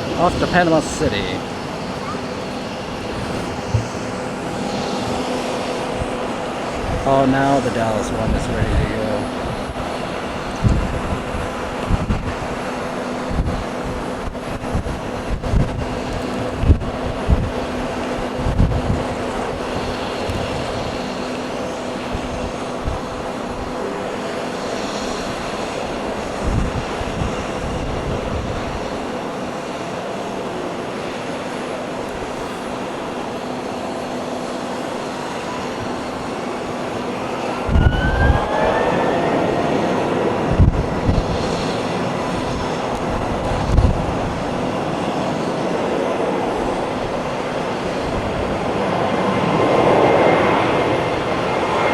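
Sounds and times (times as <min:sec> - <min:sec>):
jet engines rumbling and whining: 0:00.0 - 0:51.9
wind buffeting microphone: 0:00.0 - 0:51.9.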